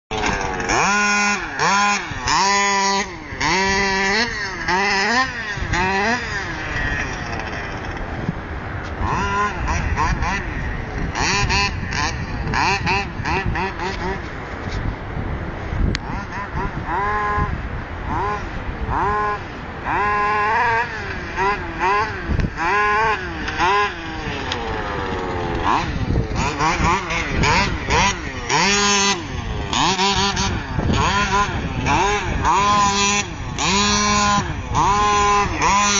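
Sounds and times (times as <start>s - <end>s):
small two-stroke engine revving: 0.1s - 14.6s, 15.8s - 35.9s.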